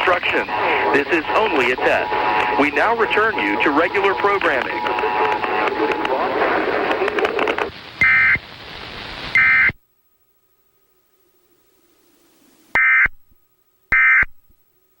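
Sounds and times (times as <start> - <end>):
broadcast hiss: 0.0 - 15.0.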